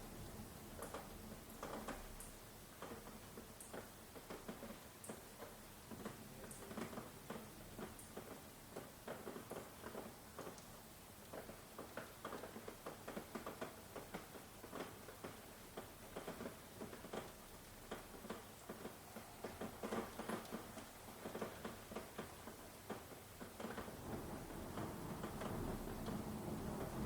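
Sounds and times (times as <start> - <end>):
raindrops pattering and dripping: 0.0 - 27.0.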